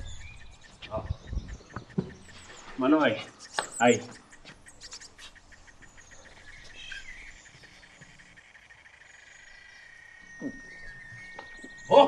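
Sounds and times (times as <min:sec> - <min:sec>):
birds chirping: 0:00.0 - 0:12.0
pulsing insect trill: 0:00.0 - 0:12.0
steady high-pitched tone: 0:00.0 - 0:12.0.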